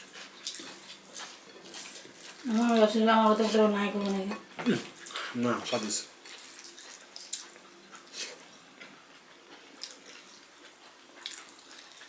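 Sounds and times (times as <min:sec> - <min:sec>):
person chewing with wet smacks: 0:00.0 - 0:12.0
soft squishing food: 0:00.0 - 0:12.0.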